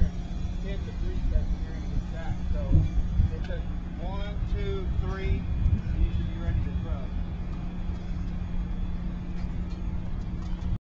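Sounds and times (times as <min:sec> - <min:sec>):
low background rumble: 0:00.0 - 0:10.8.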